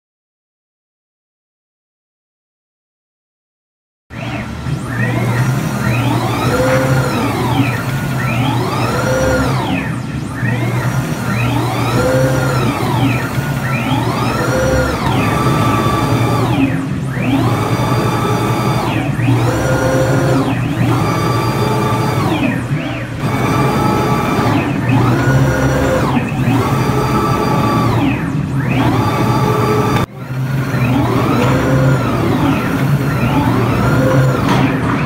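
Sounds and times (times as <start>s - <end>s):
motors whining in pitch: 4.1s - 35.0s.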